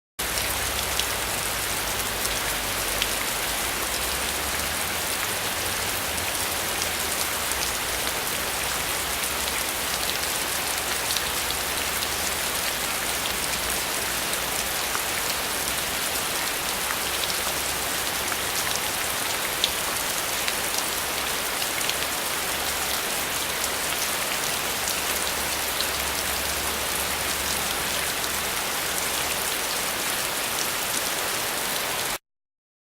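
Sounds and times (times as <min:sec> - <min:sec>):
heavy rain falling: 0:00.2 - 0:32.2.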